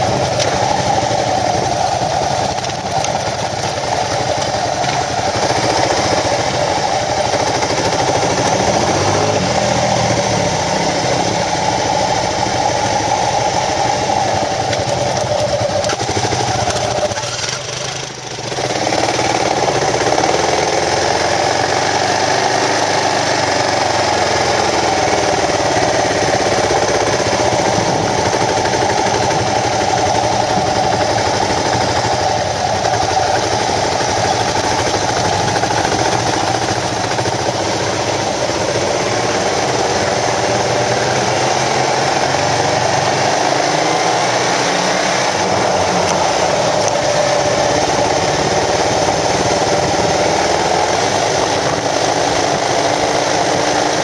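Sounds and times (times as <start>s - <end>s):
motorcycle engine riding: 0.0s - 54.0s.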